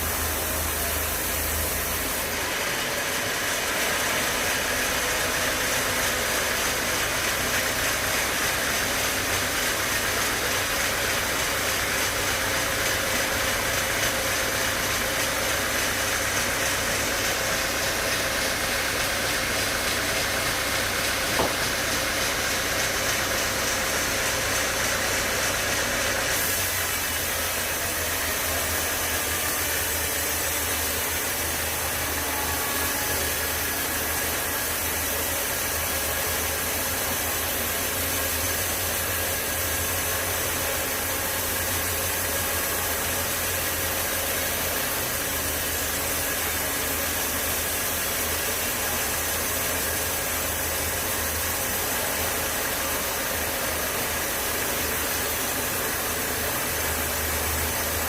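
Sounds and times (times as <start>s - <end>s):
sawmill machinery idling: 0.0s - 58.0s.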